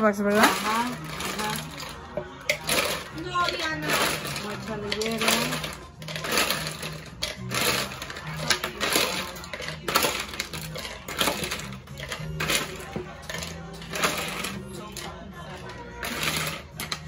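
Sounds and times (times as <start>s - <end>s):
ice cubes clinking into glass: 0.2s - 17.0s.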